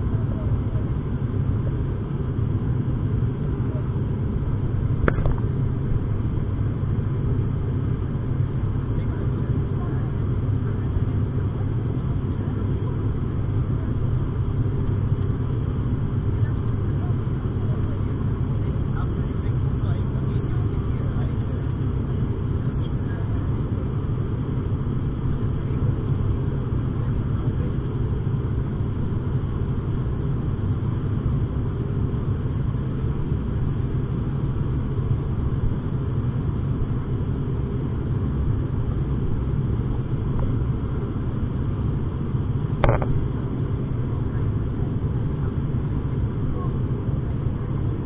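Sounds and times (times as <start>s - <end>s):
turboprop engine drone in cabin: 0.0s - 48.0s.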